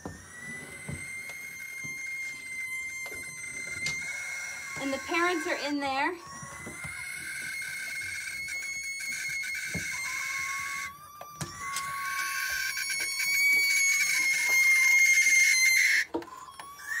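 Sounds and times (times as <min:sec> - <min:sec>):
barn owls screeching: 0:00.0 - 0:17.0.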